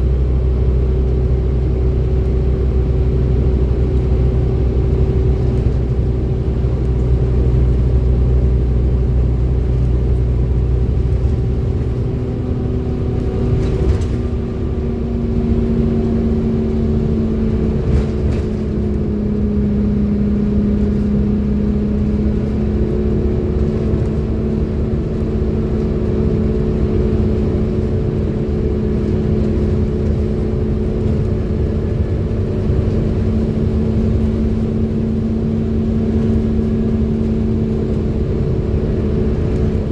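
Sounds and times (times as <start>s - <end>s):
bus engine whine and rumble: 0.0s - 39.9s.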